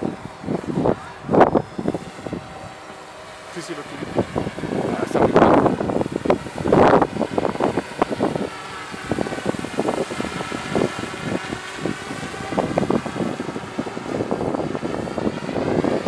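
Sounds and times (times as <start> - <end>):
drone propellers whirring: 0.0 - 16.0
gusty wind on microphone: 0.0 - 16.0.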